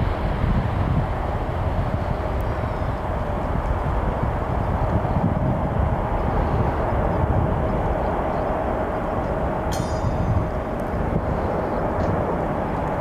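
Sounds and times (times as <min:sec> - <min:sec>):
faint engine whine: 0:00.0 - 0:13.0
jet engines rumbling: 0:00.0 - 0:13.0.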